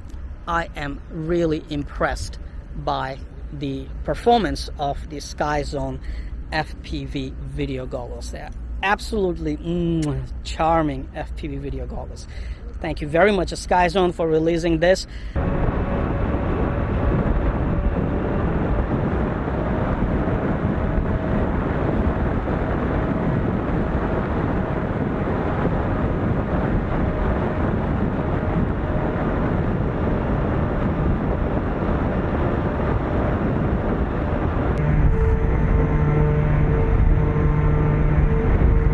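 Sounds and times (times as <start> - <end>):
airflow and propeller noise: 0.0 - 38.9.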